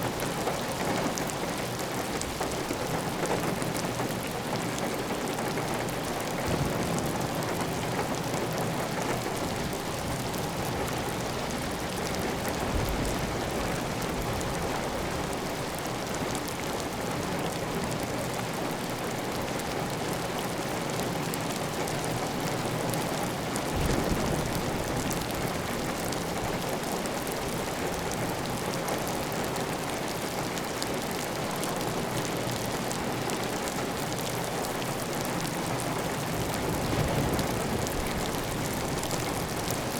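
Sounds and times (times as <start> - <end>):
heavy rain on a tile roof: 0.0 - 39.9.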